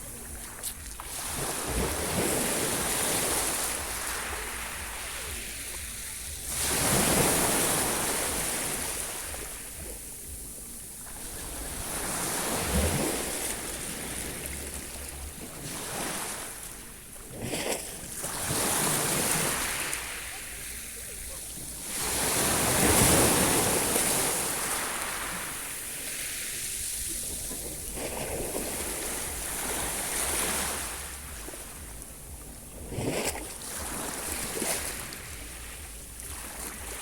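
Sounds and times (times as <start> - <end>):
sea waves washing onto shore: 0.0 - 37.0
wind rumbling on microphone: 0.0 - 37.0.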